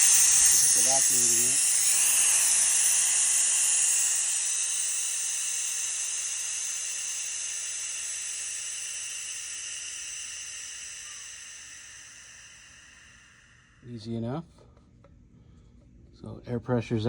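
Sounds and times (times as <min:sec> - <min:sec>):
compressed air hissing: 0:00.0 - 0:13.9.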